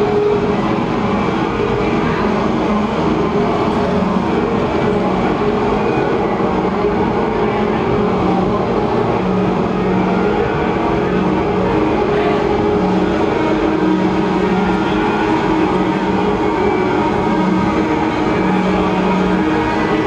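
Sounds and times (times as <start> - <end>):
loud rumbling drone: 0.0 - 20.0.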